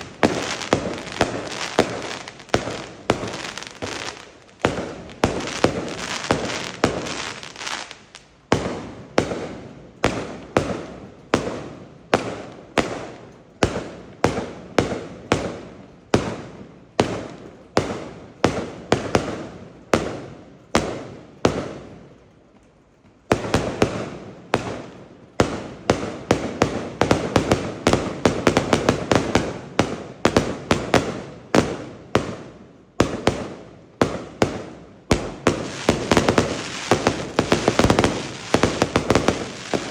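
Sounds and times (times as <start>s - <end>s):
fireworks bangs: 0.0s - 15.6s, 23.3s - 39.9s.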